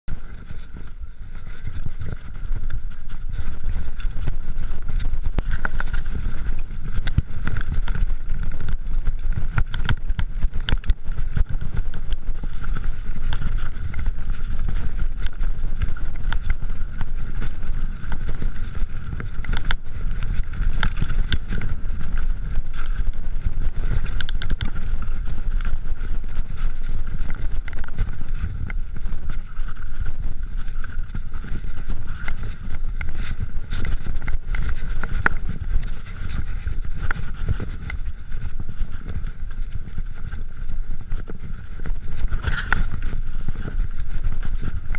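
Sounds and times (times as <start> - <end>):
rumble of wind and tyres: 0.0 - 44.9
bike clicking and rattling: 0.1 - 44.9.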